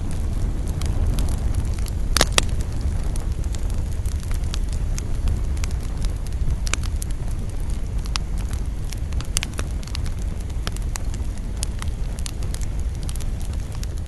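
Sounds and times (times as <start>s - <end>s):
campfire crackling: 0.0s - 14.0s
sharp pops of fire: 0.0s - 14.0s
steady low rumble: 0.0s - 14.0s.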